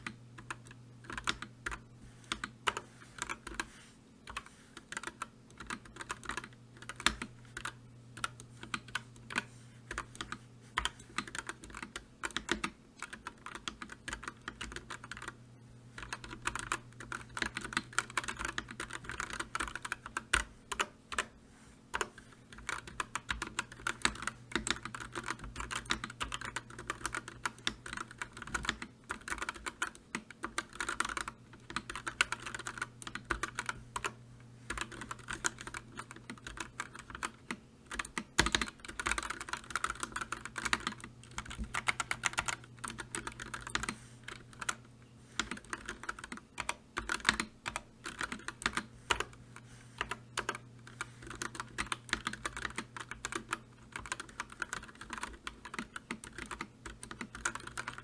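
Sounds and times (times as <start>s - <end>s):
keyboard typing clicks: 0.0s - 3.7s, 4.3s - 15.4s, 21.9s - 44.8s, 45.4s - 49.4s, 50.0s - 58.0s
faint low hum: 0.0s - 58.0s.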